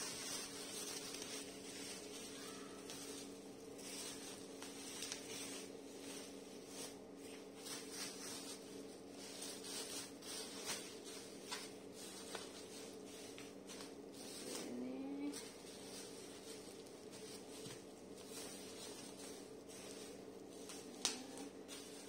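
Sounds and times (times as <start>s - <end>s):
bubble wrap crinkling: 0.0s - 22.0s
steady low hum: 0.0s - 22.0s.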